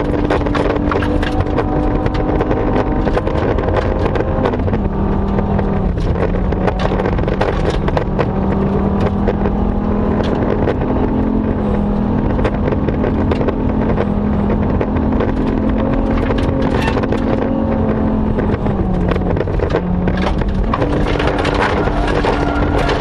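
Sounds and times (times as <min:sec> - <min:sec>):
gravel clattering against car: 0:00.0 - 0:23.0
rally car engine running hard: 0:00.0 - 0:23.0.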